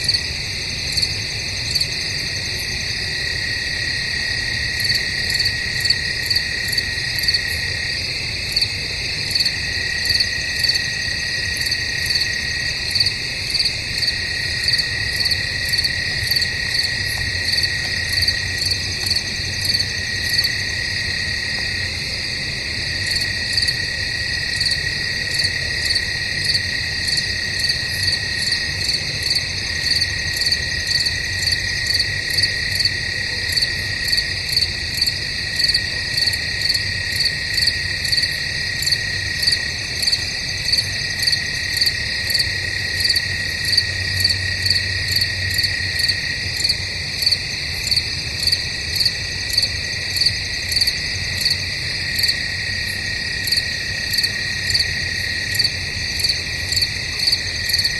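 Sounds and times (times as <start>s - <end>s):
crickets chirping: 0.0s - 57.9s.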